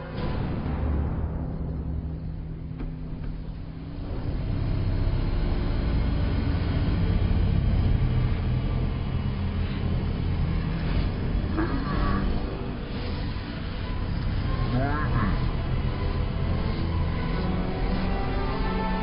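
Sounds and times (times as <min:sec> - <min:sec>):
deep machine rumble: 0:00.0 - 0:19.0.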